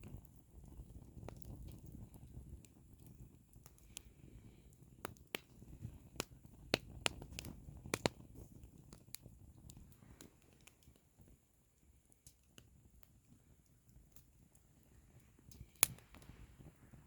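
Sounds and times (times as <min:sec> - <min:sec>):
firewood crackling and popping: 0:00.0 - 0:17.0
low rumble of fire: 0:00.0 - 0:17.0.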